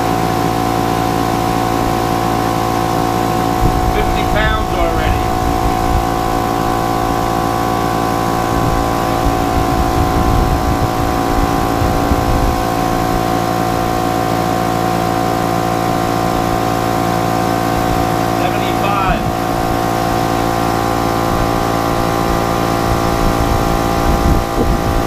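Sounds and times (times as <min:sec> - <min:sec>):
air compressor running: 0:00.0 - 0:25.0.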